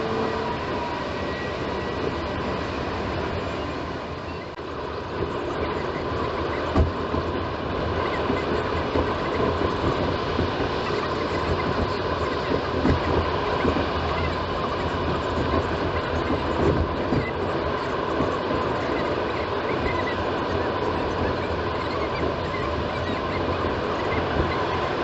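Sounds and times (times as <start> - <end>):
road and tyre noise: 0.0 - 25.0.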